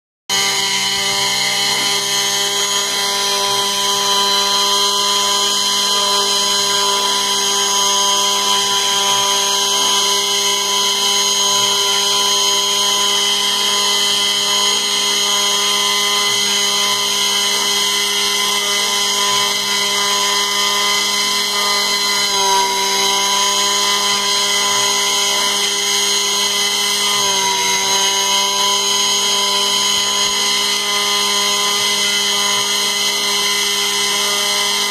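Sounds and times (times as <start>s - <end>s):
router spindle whining: 0.3s - 34.9s.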